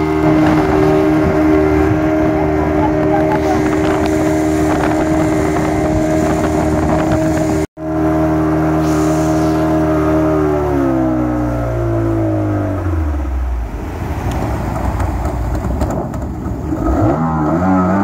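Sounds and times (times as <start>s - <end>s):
speedboat engine running: 0.0s - 18.0s
water rushing against hull: 0.0s - 18.0s.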